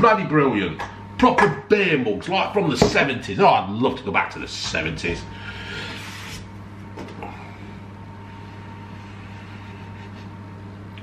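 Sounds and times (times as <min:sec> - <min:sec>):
low appliance hum: 0:00.0 - 0:11.0.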